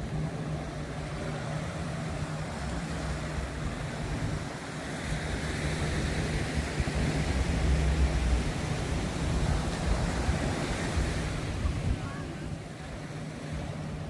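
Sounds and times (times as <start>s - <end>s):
motor traffic hum: 0.0s - 14.0s
surf washing: 0.0s - 14.0s.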